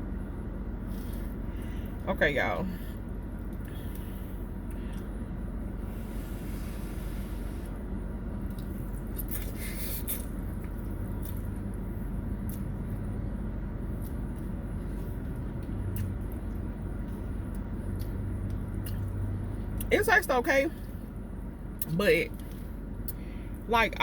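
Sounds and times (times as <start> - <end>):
low rumble and hum: 0.0 - 24.0.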